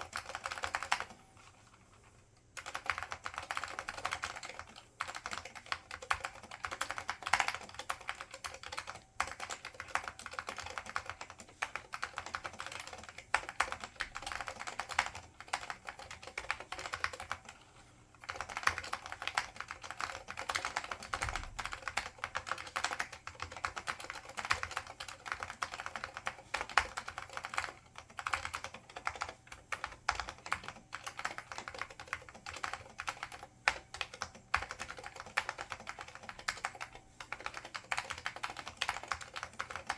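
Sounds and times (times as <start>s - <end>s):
fast keyboard typing clicks: 0.0s - 1.2s, 2.6s - 17.6s, 18.2s - 39.9s.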